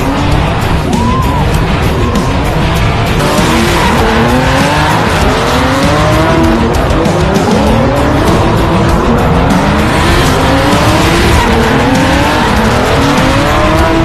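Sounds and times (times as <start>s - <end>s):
car engine revving: 0.0s - 14.0s
tyres squealing and skidding: 0.0s - 14.0s.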